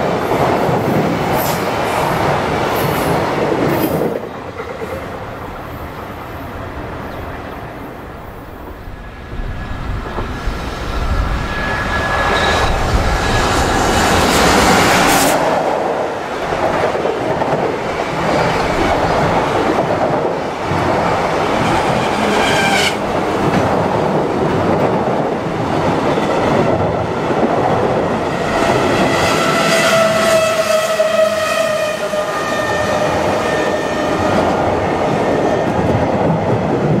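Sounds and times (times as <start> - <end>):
electric locomotive passing: 0.0 - 37.0.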